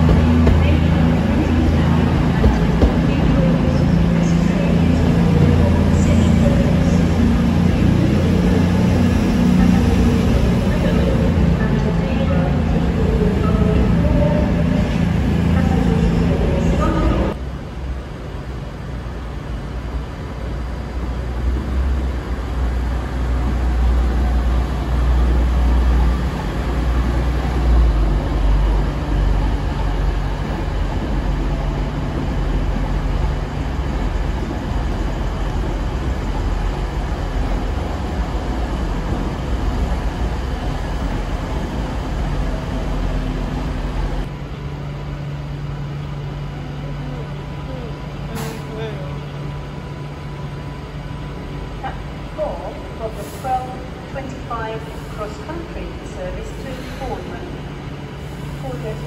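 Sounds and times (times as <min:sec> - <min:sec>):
train low hum: 0:00.0 - 0:59.0
train wheels rumbling: 0:00.0 - 0:59.0.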